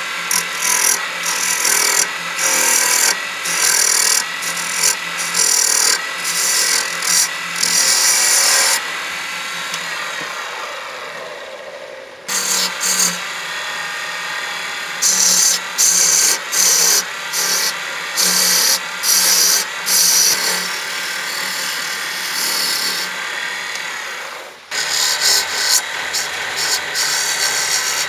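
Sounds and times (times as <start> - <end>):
lathe motor hum: 0.0 - 28.0
turning tool cutting wood: 0.0 - 28.0.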